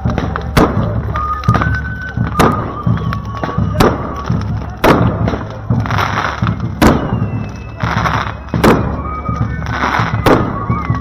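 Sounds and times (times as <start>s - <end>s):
faint band music: 0.0s - 11.0s
firework bangs with hissing bursts: 0.0s - 11.0s.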